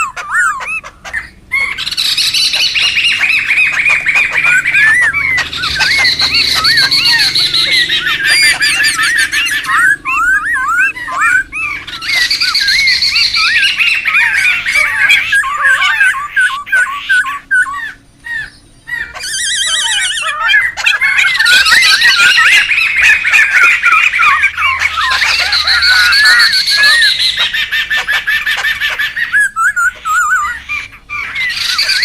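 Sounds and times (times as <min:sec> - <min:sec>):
bird trill: 0:00.0 - 0:32.0
birds whistling and chattering: 0:00.0 - 0:32.0.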